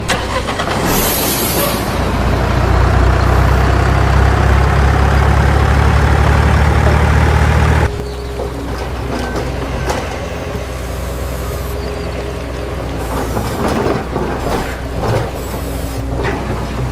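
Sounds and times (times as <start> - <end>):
heavy truck engine rumble: 0.0 - 16.9.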